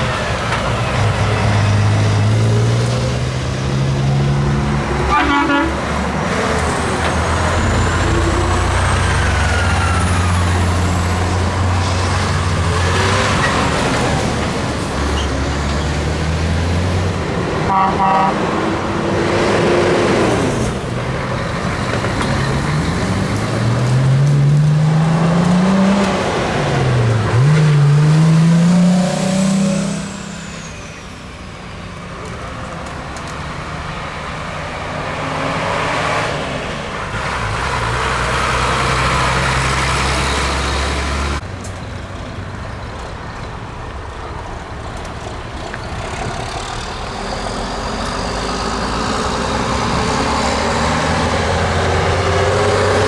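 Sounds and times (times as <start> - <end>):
diesel truck accelerating: 0.0 - 53.0
road noise: 0.0 - 53.0.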